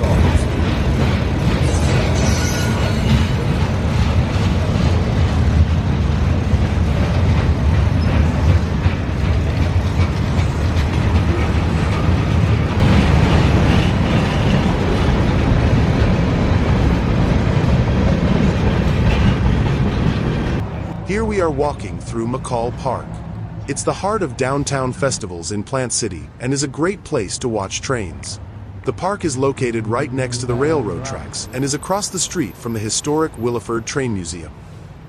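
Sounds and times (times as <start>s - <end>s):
freight train rumbling on rails: 0.0s - 25.4s, 28.3s - 35.0s.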